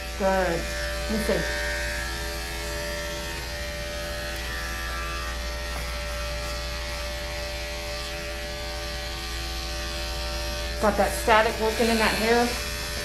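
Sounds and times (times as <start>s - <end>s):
electric clipper buzzing: 0.0s - 13.0s.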